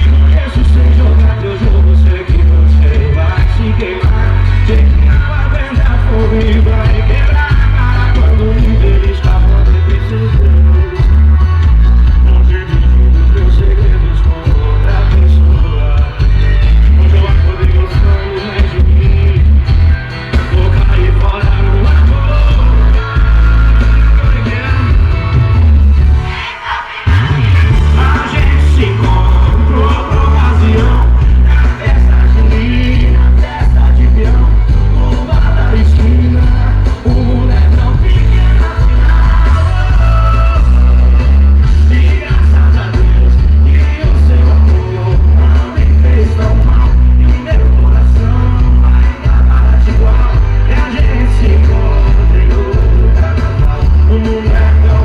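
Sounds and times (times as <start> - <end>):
loud music with heavy bass: 0.0 - 55.0
song through car audio system: 0.0 - 55.0.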